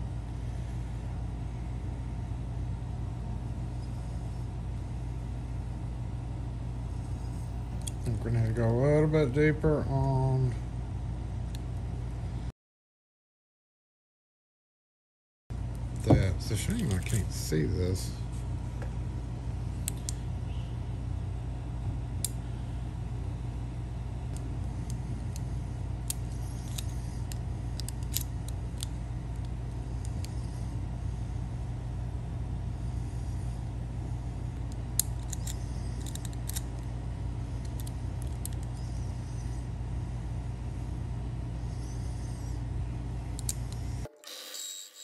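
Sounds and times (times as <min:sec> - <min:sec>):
low machine hum: 0:00.0 - 0:12.5, 0:15.5 - 0:45.0.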